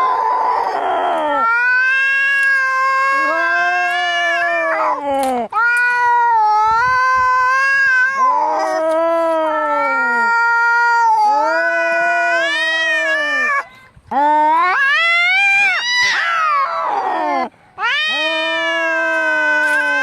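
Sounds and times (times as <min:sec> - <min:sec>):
cats yowling in a fight: 0:00.0 - 0:13.6, 0:14.3 - 0:20.0.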